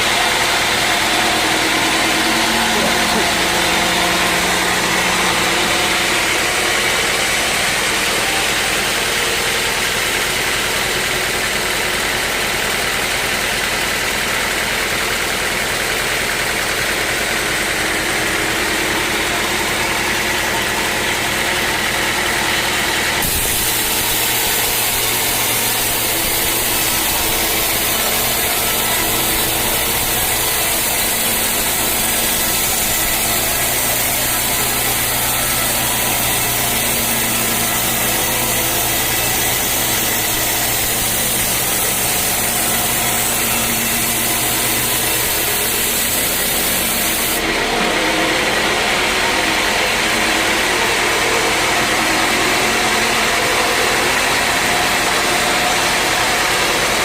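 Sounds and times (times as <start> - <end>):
sawmill machinery engine running: 0.0 - 57.0.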